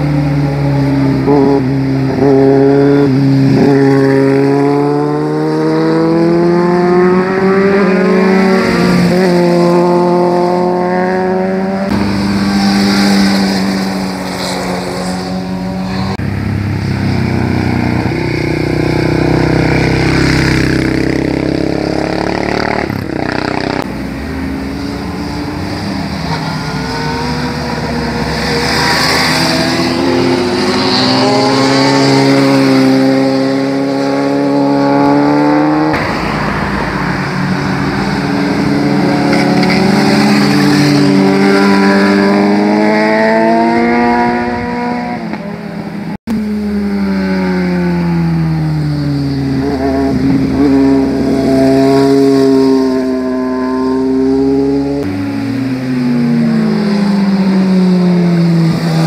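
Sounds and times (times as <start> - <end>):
motorcycle engines revving: 0.0 - 59.0.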